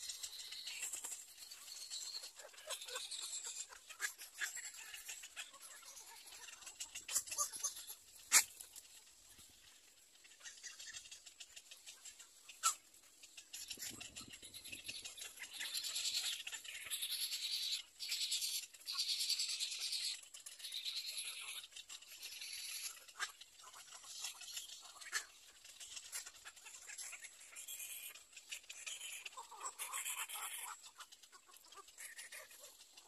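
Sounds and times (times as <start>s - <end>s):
bird chicks chattering calls: 0.0s - 9.3s, 10.2s - 33.0s.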